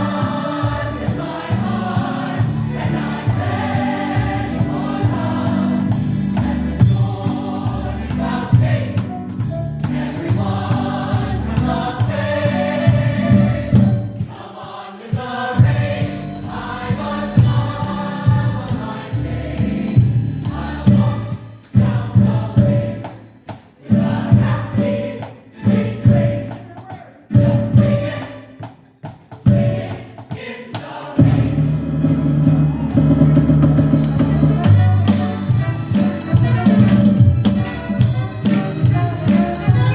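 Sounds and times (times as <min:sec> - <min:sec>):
group of voices singing: 0:00.0 - 0:39.9
instrumental accompaniment: 0:00.0 - 0:39.9.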